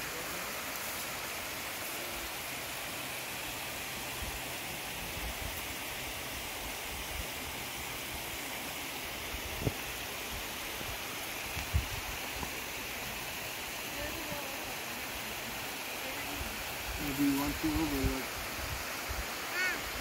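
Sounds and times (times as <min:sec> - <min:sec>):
small waterfall rushing: 0:00.0 - 0:20.0.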